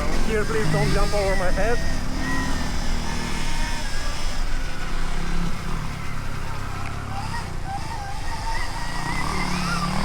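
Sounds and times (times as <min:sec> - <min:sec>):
low rumble of motocross bike: 0:00.0 - 0:10.0
thin wavering whine: 0:00.0 - 0:10.0.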